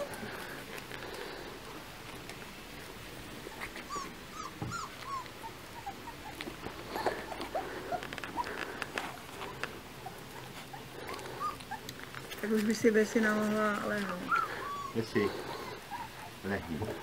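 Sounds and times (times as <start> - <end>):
puppies whimpering: 0.0 - 1.6, 3.3 - 12.4, 13.3 - 17.0.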